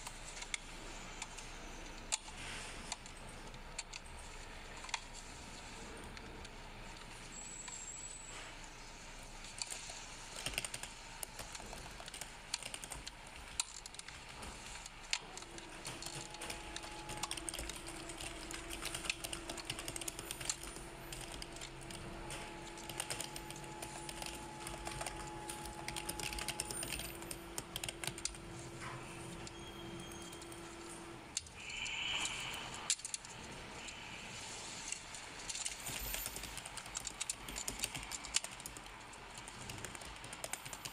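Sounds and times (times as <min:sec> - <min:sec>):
steady hum: 0:00.0 - 0:40.5.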